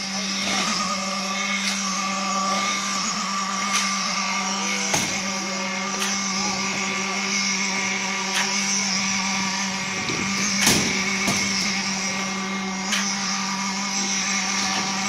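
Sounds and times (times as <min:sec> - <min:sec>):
concrete pump drone: 0:00.0 - 0:15.0.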